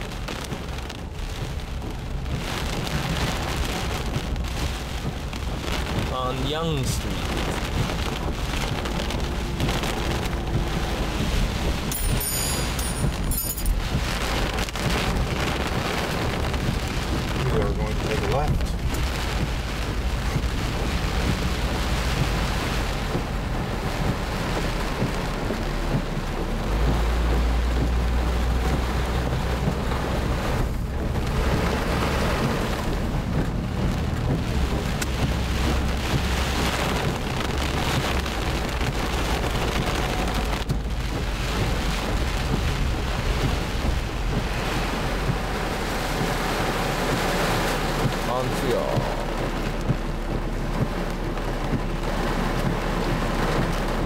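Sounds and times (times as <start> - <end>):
car driving: 0.0 - 54.0
heavy rain beating on car: 0.0 - 54.0
low rumble of wind: 0.0 - 54.0.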